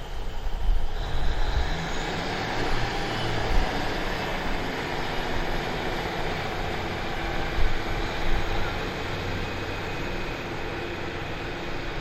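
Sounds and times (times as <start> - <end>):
diesel train rumbling on rails: 0.0 - 12.0.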